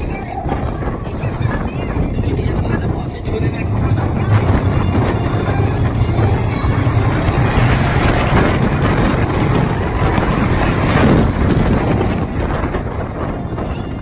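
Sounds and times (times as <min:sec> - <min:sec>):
roller coaster wheels rumbling: 0:00.0 - 0:14.0
wind buffeting microphone: 0:00.0 - 0:14.0.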